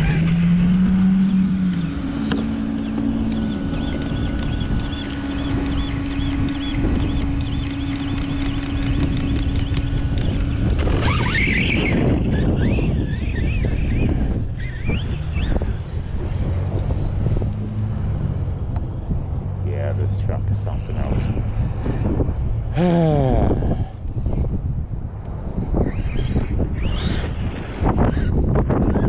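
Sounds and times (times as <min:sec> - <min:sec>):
electric motor whine: 0:00.0 - 0:29.0
wind on microphone: 0:00.0 - 0:29.0.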